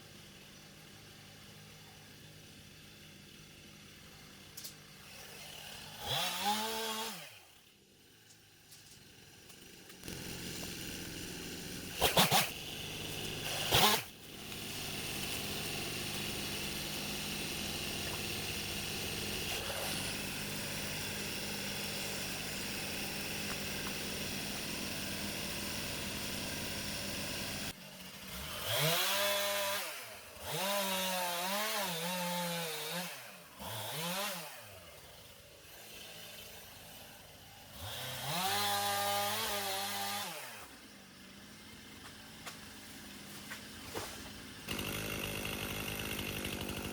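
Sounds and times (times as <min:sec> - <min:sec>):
chainsaw engine revving: 0:02.1 - 0:07.8, 0:09.0 - 0:46.9.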